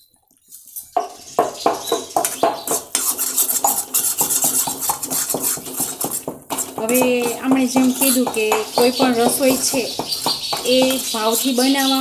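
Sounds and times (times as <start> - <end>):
metal ladle scraping iron pan: 1.8 - 12.0.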